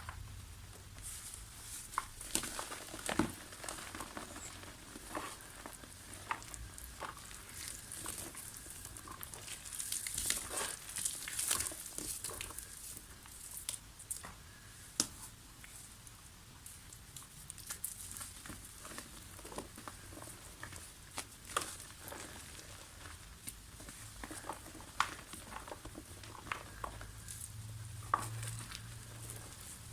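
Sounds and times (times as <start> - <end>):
dried mud crumbling: 0.0 - 15.3, 16.8 - 29.9.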